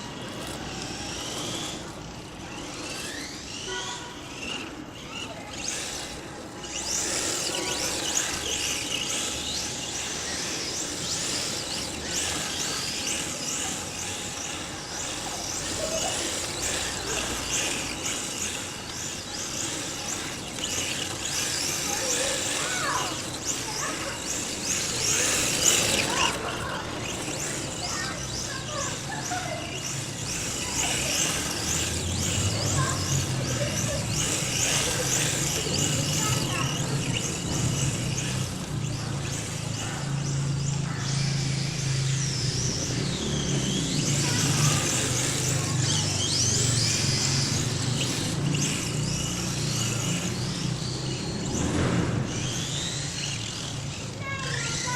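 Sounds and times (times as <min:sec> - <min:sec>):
electric motor whine: 0:00.0 - 0:54.9
tyres squealing: 0:00.0 - 0:54.9.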